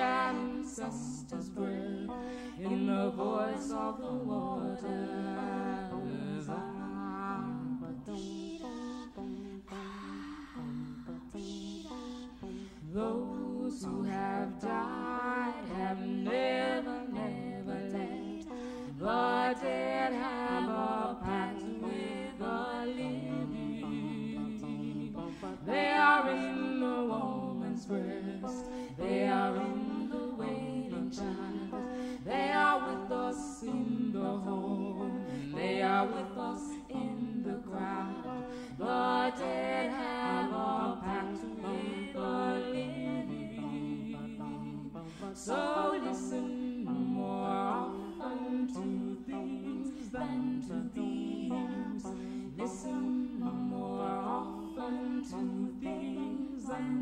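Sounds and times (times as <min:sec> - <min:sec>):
person singing: 0:00.0 - 0:57.0.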